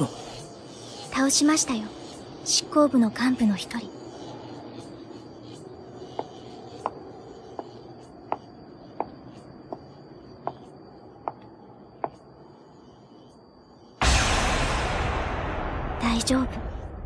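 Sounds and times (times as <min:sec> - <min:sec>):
faint high steady tone: 0:00.0 - 0:14.0.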